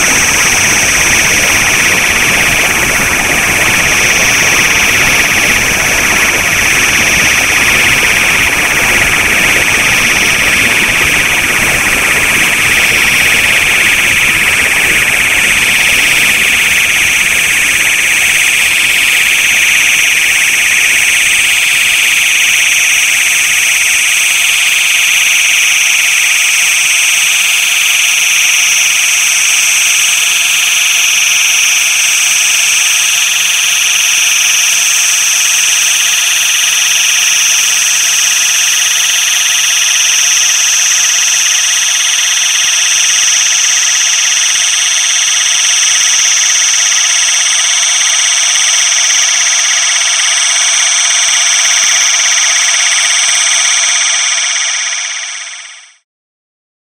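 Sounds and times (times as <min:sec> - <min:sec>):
high-pitched electronic noise drone: 0:00.0 - 0:56.0.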